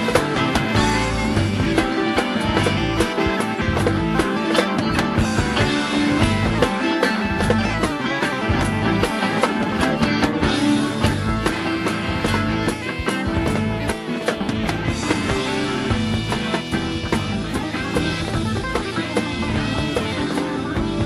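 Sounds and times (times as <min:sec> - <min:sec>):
progressive rock band: 0:00.0 - 0:21.0.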